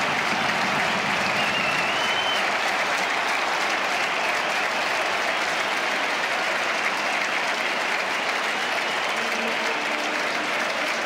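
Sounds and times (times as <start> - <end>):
stadium crowd cheering and applauding: 0.0 - 11.0.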